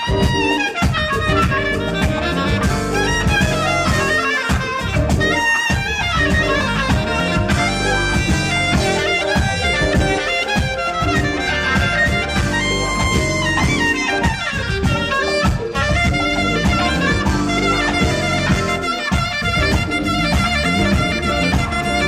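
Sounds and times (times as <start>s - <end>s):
band playing steady beat: 0.0s - 22.0s
saxophone jazz melody: 0.0s - 22.0s.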